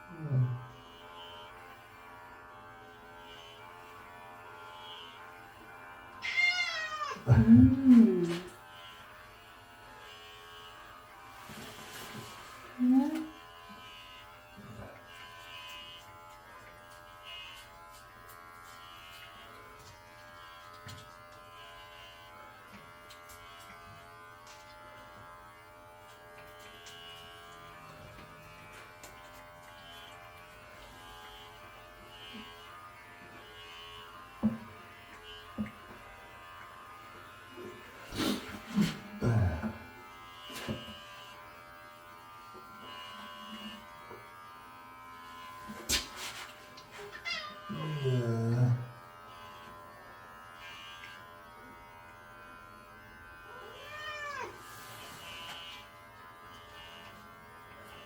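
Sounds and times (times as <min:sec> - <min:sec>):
electric hair clippers buzzing: 0:00.0 - 0:58.0.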